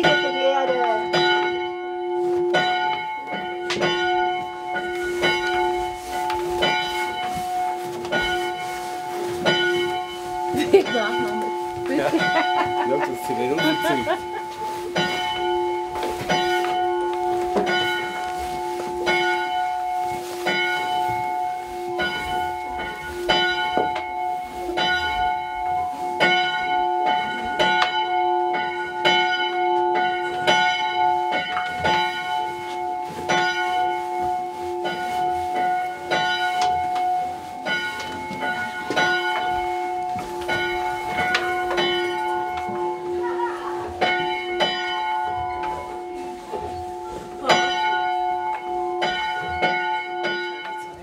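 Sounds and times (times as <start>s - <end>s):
chapel bell ringing: 0.0s - 51.0s.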